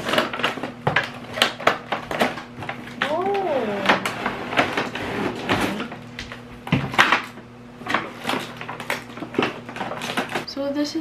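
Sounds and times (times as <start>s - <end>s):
plastic wrapping rustling: 0.0s - 10.5s.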